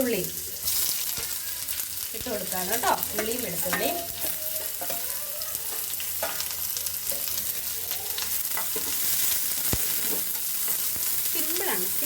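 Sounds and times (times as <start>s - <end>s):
onion sizzling in hot oil: 0.0s - 12.0s
pan being stirred: 0.0s - 12.0s.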